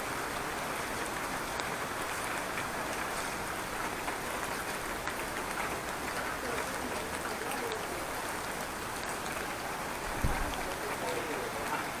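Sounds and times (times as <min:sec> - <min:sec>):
rain falling on street: 0:00.0 - 0:12.0.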